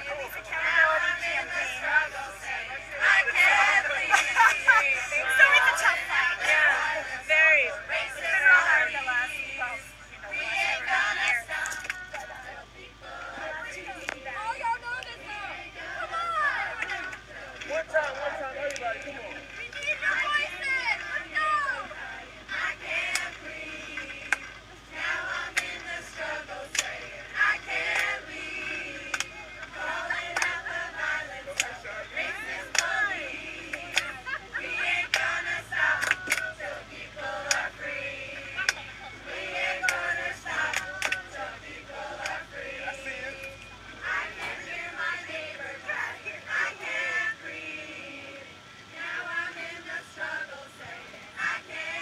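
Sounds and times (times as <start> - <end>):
group singing a protest chant: 0.0 - 52.0.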